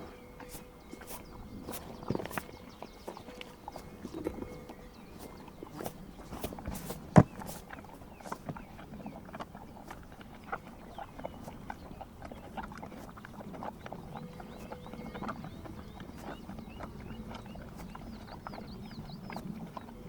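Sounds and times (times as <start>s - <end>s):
horses licking salt block: 0.4s - 20.0s.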